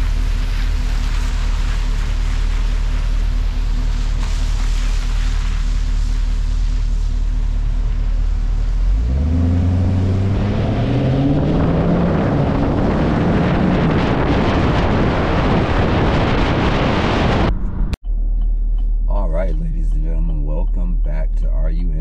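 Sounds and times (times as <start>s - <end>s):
wind and road noise: 0.0s - 19.1s
car engine accelerating: 0.0s - 22.0s.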